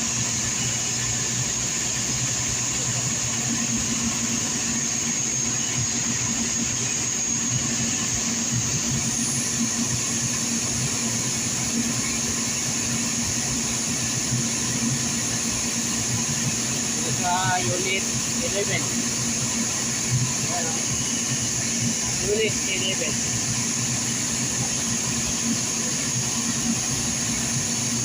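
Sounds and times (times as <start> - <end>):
motor humming with high whine: 0.0 - 28.0.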